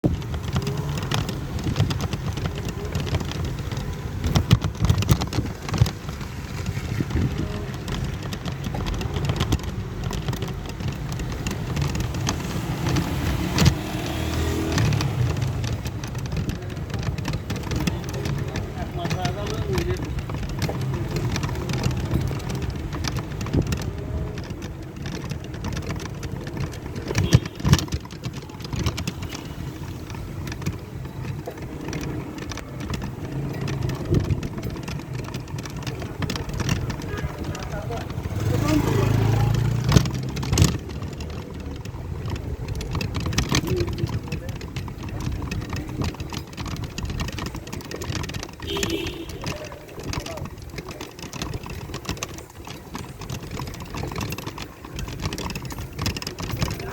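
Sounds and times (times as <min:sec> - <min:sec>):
clicks and knocks: 0:00.0 - 0:56.9
traffic rumble on wet road: 0:00.0 - 0:56.9.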